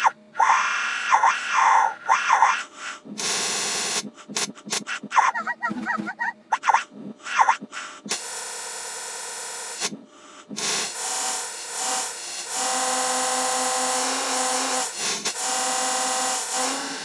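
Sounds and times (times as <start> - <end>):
buzzing drone of smeared tones: 0.8 - 17.0.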